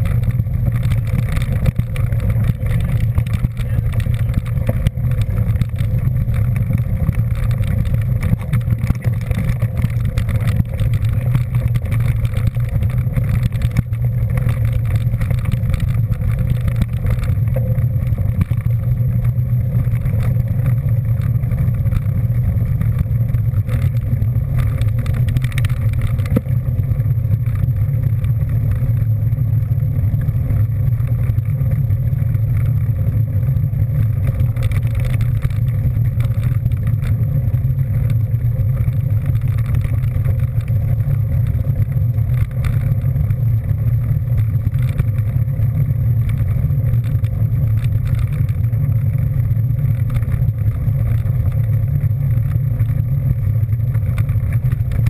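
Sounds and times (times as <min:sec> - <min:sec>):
vehicle rumbling: 0:00.0 - 0:55.0.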